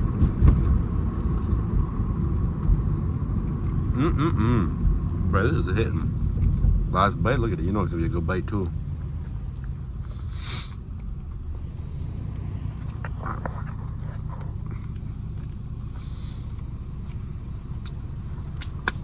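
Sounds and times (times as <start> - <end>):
car exhaust drone from inside: 0.0 - 19.0.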